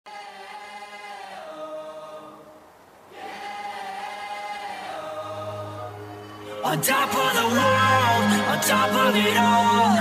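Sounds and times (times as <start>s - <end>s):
held choir-like chords: 0.1s - 10.0s.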